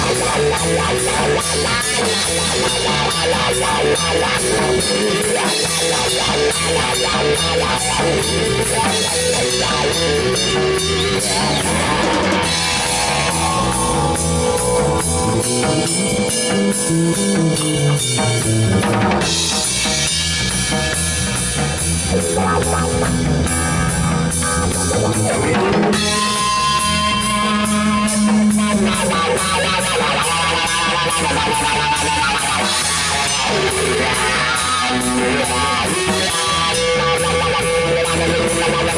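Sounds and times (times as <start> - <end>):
drum kit beat: 0.0 - 38.9
electric bass: 0.0 - 38.9
electric guitar: 0.0 - 38.9.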